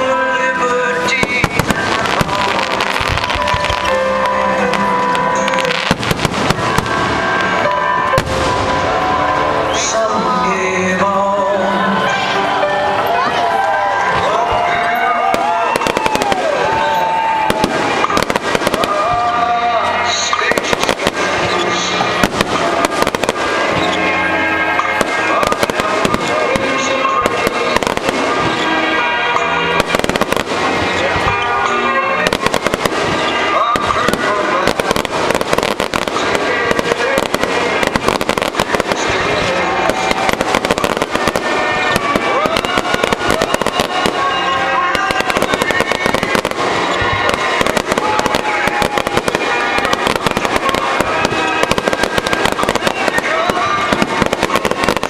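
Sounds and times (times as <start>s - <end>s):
fireworks bursting: 0.0s - 11.2s, 12.0s - 55.0s
music playing: 0.0s - 55.0s.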